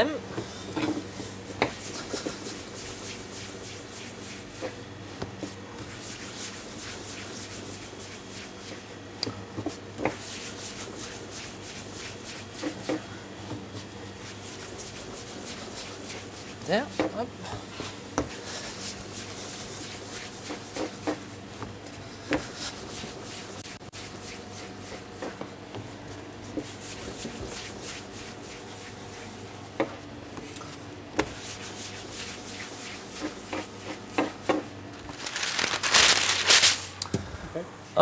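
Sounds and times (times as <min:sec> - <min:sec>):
hands rolling dough: 0:00.4 - 0:36.3.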